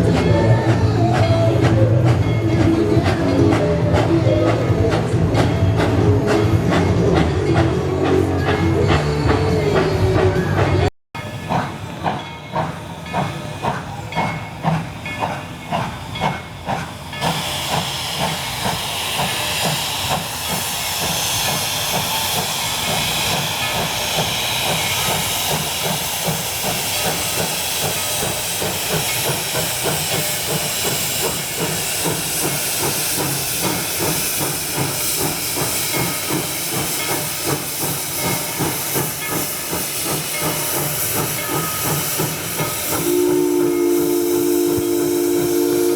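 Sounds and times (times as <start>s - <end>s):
loud steam hiss: 0.0s - 45.9s
steam locomotive chuffing: 0.0s - 45.9s.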